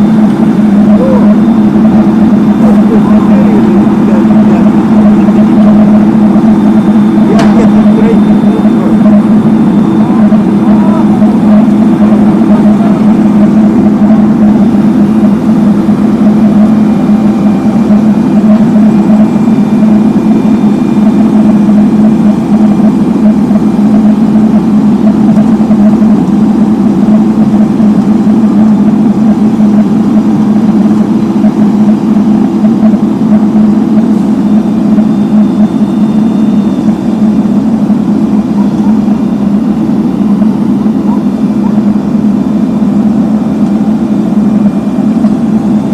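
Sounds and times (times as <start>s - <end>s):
road-works machinery engine droning: 0.0s - 45.9s.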